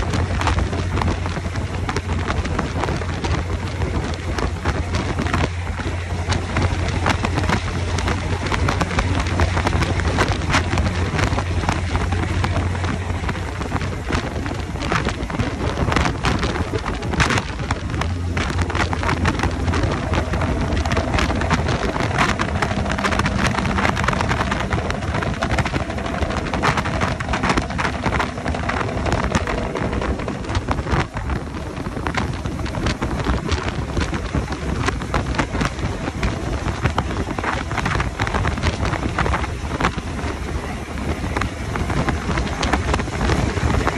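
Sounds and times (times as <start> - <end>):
diesel truck engine drone: 0.0 - 43.9
wind and road spray: 0.0 - 43.9
wind buffeting microphone: 0.0 - 43.9.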